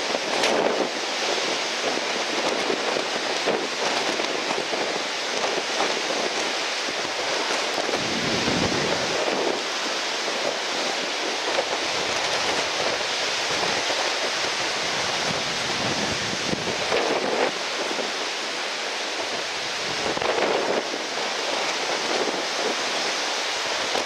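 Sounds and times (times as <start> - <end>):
strong wind: 0.0 - 24.0
surf rushing: 0.0 - 24.0.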